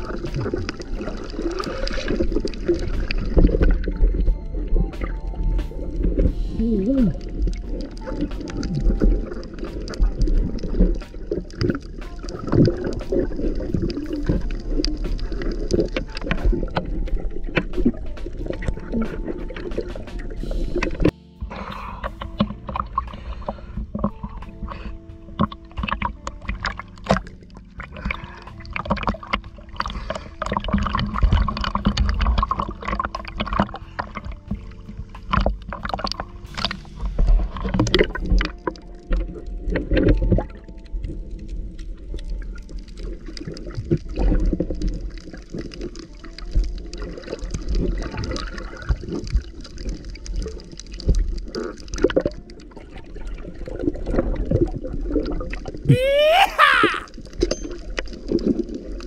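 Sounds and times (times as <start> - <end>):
sea water sloshing and gurgling: 0.0 - 55.9, 57.1 - 59.0
water splashes and knocks: 0.0 - 55.9.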